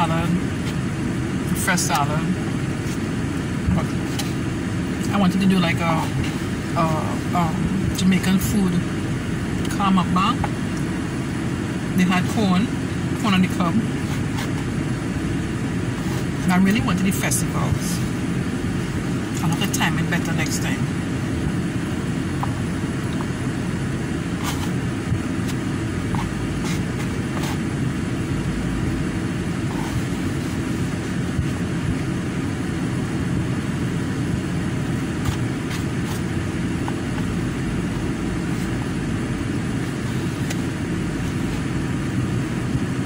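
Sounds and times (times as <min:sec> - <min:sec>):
car engine rumble inside cabin: 0:00.0 - 0:43.0.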